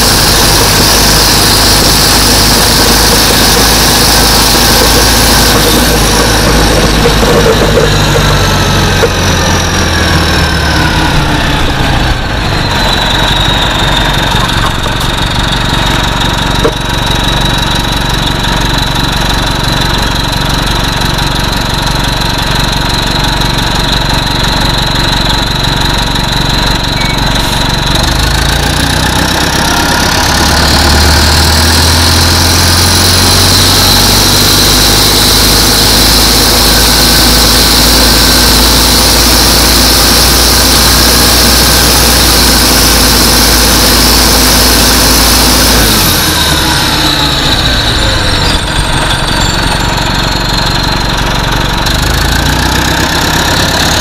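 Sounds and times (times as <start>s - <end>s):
bus diesel engine idling: 0.0s - 54.0s
high transmission whine: 0.0s - 54.0s.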